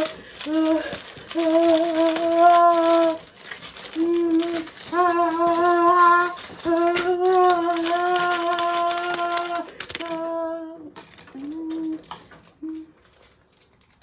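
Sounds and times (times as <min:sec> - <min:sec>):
high voice humming: 0:00.0 - 0:03.3, 0:04.0 - 0:13.0
clicking and rattling handling: 0:00.0 - 0:14.0.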